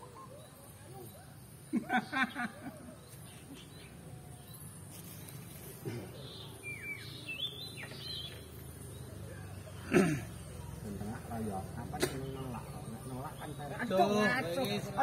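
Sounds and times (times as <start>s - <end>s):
bird chirps: 0.0s - 14.3s.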